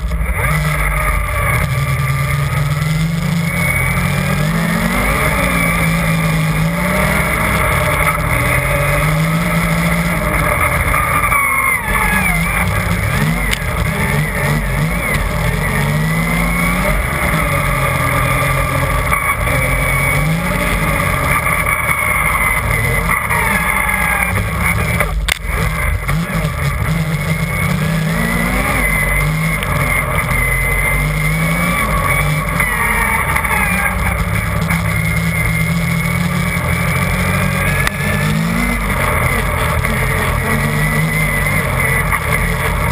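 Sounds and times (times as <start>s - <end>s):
snowmobile engine running hard: 0.0s - 42.9s.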